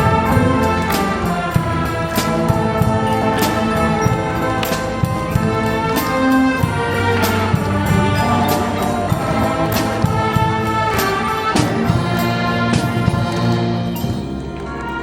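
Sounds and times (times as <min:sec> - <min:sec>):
drum strokes: 0:00.0 - 0:14.7
wind band brass and woodwinds: 0:00.0 - 0:15.0.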